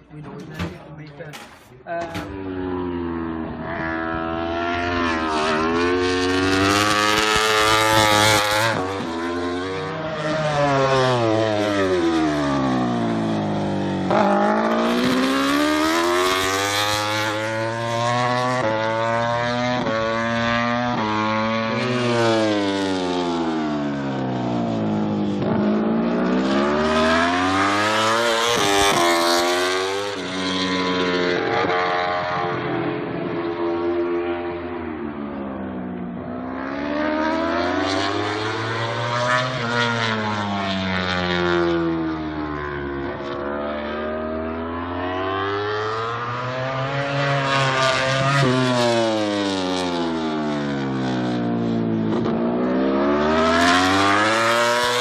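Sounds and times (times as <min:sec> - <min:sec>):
racing motorcycle engine shifting gears: 0:00.0 - 0:55.0.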